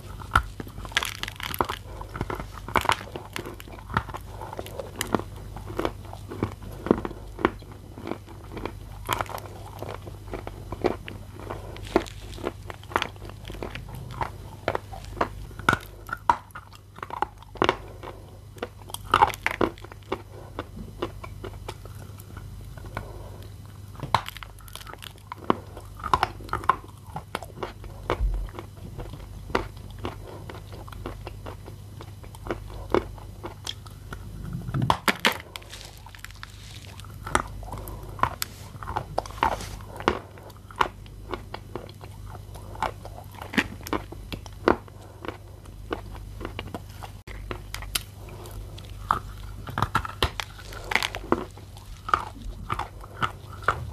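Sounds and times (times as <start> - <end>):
person chewing with wet crunches: 0.0 - 53.9.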